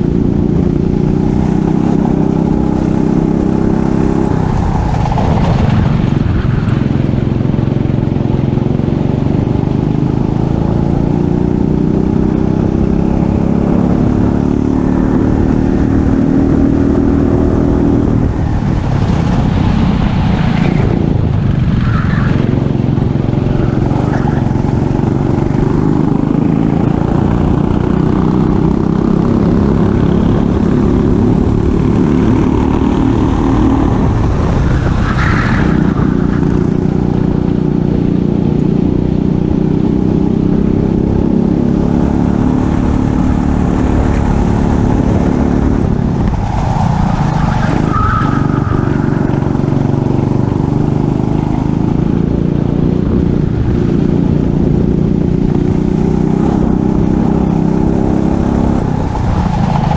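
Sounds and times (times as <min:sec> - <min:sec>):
kart engine at high revs: 0:00.0 - 0:21.2, 0:22.2 - 0:59.9
rush of wind: 0:00.0 - 0:59.9.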